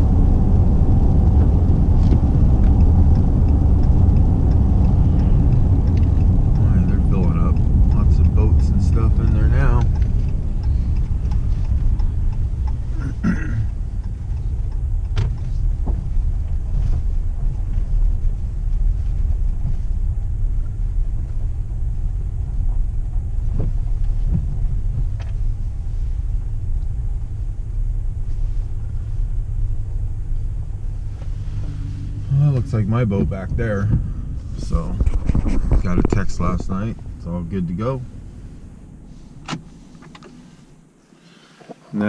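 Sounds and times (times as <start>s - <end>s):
road and engine rumble: 0.0s - 42.0s.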